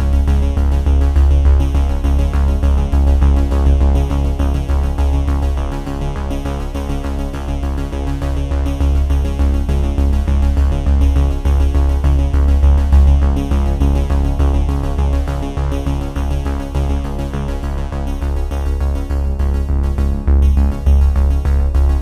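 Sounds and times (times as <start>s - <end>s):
pulsing bass beat: 0.0s - 22.0s.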